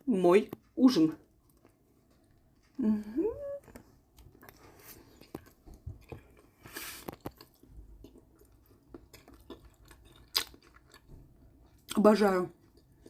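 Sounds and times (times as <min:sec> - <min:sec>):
close-miked chewing: 0:01.2 - 0:02.8, 0:03.4 - 0:13.0.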